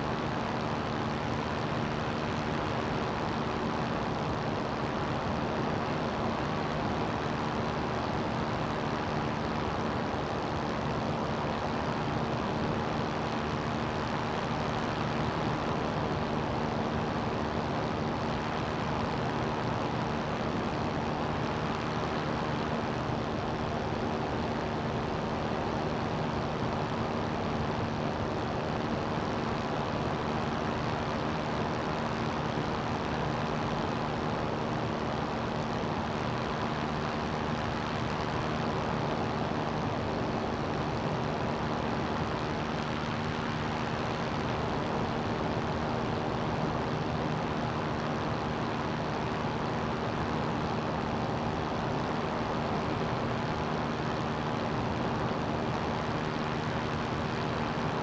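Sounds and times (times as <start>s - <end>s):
ultralight engine and propeller: 0.0s - 58.0s.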